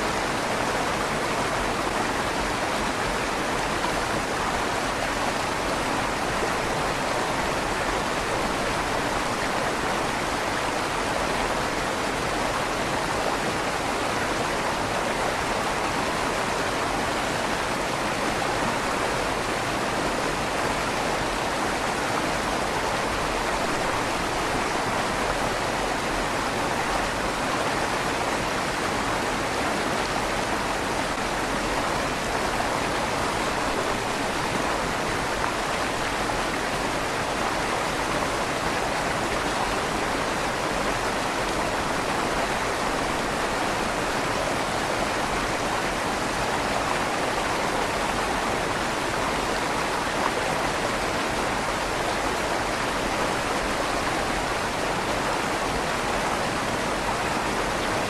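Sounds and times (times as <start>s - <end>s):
river water rushing under bridge: 0.0s - 58.0s.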